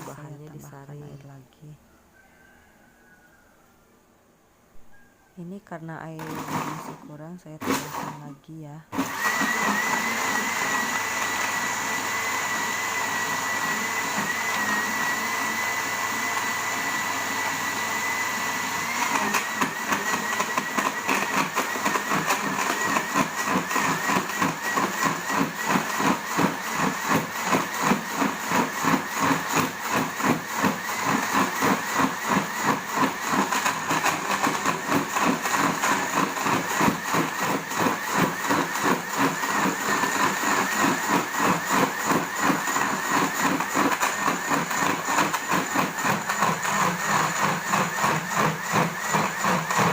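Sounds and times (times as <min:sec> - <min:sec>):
blender motor whining: 0:06.2 - 0:08.3, 0:08.9 - 0:49.9.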